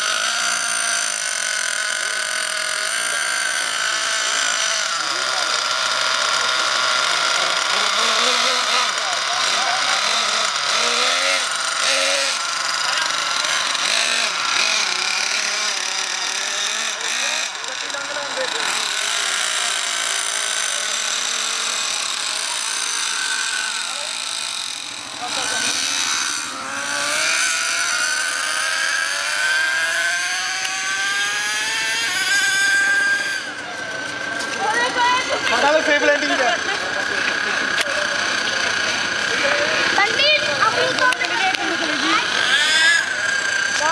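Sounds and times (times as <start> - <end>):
murmur of voices: 0.0 - 43.9
small engine buzzing: 0.0 - 43.9.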